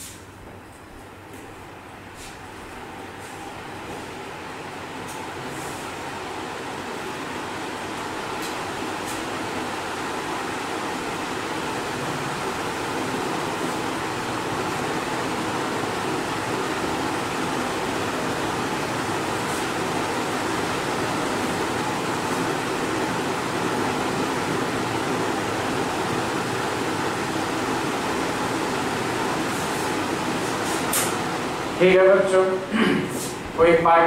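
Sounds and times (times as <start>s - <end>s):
steady fan-like background noise: 0.0s - 34.0s.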